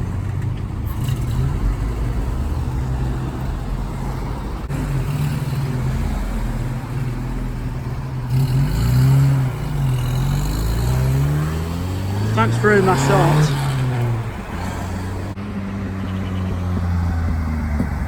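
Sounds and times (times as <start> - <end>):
car engine accelerating: 0.0 - 18.0
car engines humming: 0.0 - 18.0.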